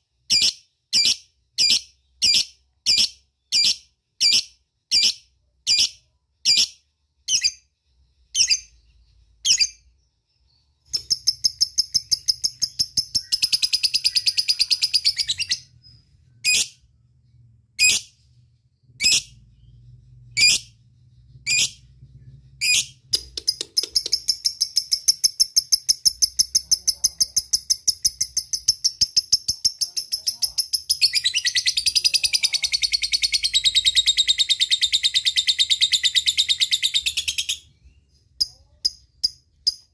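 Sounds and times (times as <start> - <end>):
bird sharp high chirps: 0.3 - 16.9, 18.9 - 39.9.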